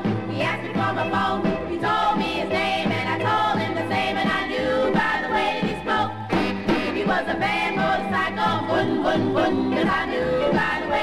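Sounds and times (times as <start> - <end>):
orchestra backing: 0.0 - 11.0
female vocal group singing: 0.3 - 11.0.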